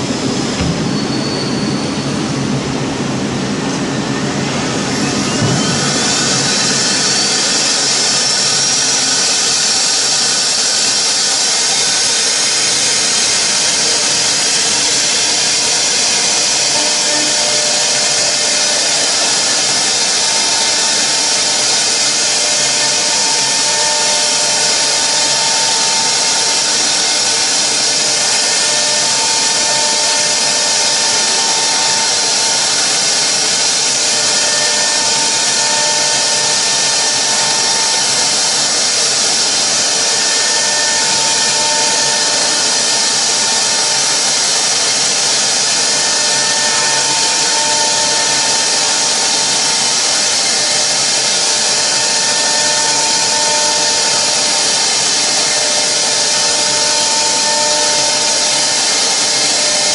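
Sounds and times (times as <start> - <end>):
router spindle machining foam: 3.6 - 59.9.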